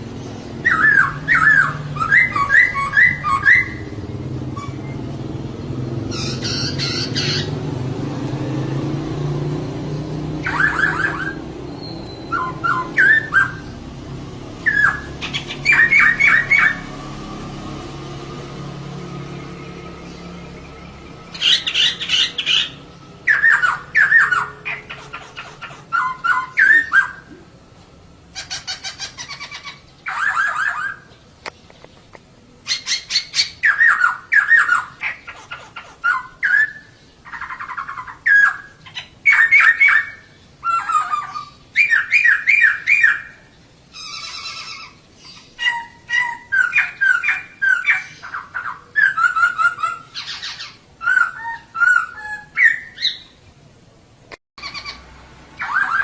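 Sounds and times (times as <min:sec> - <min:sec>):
bird chattering calls: 0:00.2 - 0:05.2, 0:06.0 - 0:07.7, 0:10.4 - 0:13.9, 0:14.6 - 0:16.9, 0:20.1 - 0:27.4, 0:28.3 - 0:32.0, 0:32.6 - 0:53.4, 0:54.6 - 0:56.0.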